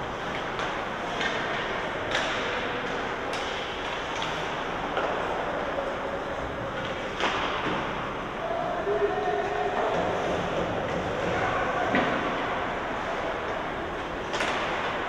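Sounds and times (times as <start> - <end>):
crowd din at ice hockey game: 0.0 - 15.0.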